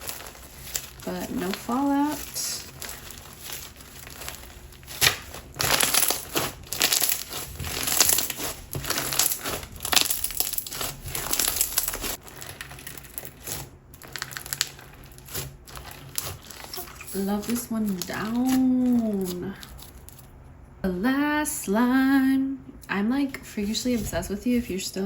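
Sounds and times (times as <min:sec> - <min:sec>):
slime crunching and popping: 0:00.0 - 0:20.3.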